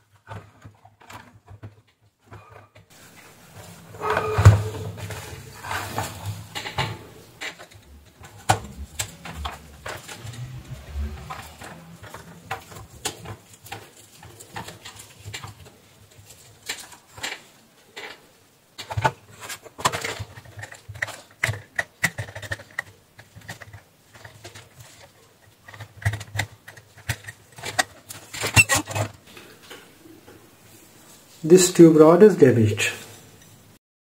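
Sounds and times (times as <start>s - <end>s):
wire cage and plastic housing rattling: 0.1s - 29.2s.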